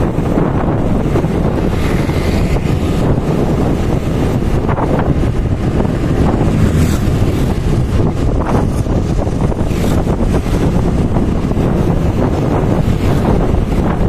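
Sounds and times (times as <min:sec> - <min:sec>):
road noise: 0:00.0 - 0:14.0
scooter engine: 0:00.0 - 0:14.0
wind buffeting microphone: 0:00.0 - 0:14.0.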